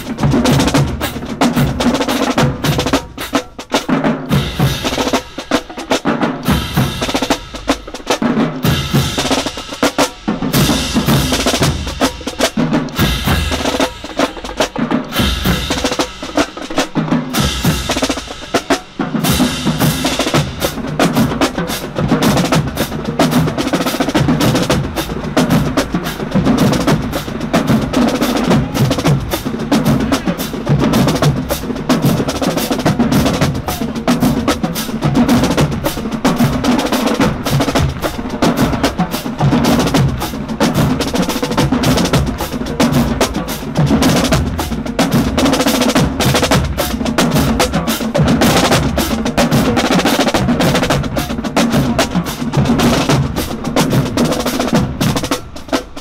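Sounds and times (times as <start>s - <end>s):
bass drums: 0.0s - 56.0s
snare drum strokes: 0.0s - 56.0s.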